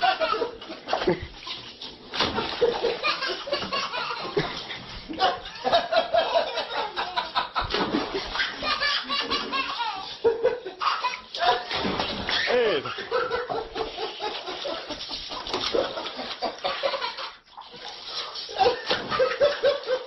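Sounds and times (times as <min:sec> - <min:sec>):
people laughing hard: 0:00.0 - 0:01.4, 0:02.4 - 0:17.4, 0:18.5 - 0:20.0.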